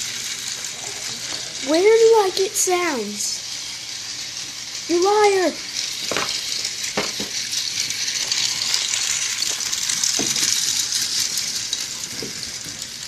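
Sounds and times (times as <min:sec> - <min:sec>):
toy train rattling on track: 0:00.0 - 0:13.0.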